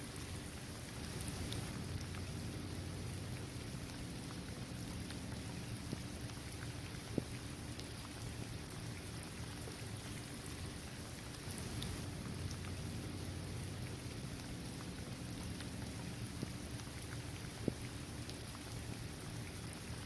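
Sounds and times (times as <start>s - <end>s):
raindrops pattering: 0.0s - 20.0s
steady rain falling: 0.0s - 20.0s.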